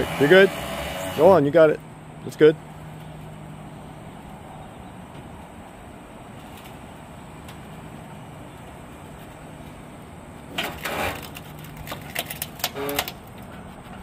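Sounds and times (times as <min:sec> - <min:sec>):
forklift low hum: 0:00.0 - 0:12.0.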